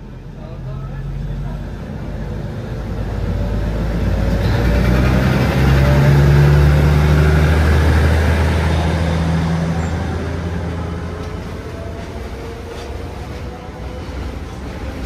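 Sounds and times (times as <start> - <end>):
diesel locomotive engine: 0.0 - 15.0
train wheels on rails: 1.4 - 15.0.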